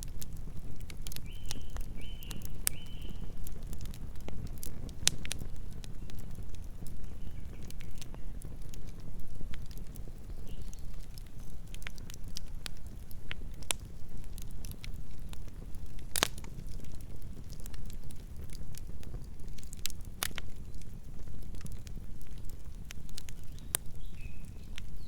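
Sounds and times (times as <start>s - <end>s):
logs crackling and popping: 0.0s - 25.0s
wood fire rumbling: 0.0s - 25.0s.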